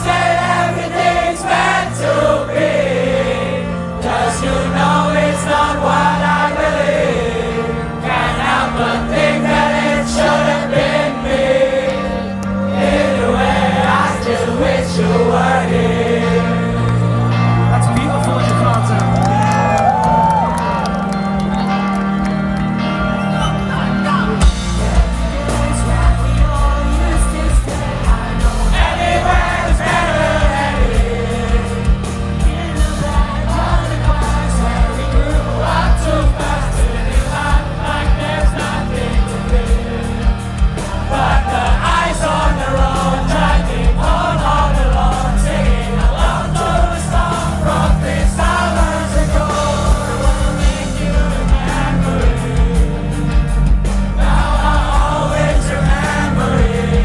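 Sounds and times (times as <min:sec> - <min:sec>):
sung vocals: 0:00.0 - 0:21.6, 0:22.7 - 0:57.0
live pop-punk band playing: 0:00.0 - 0:57.0.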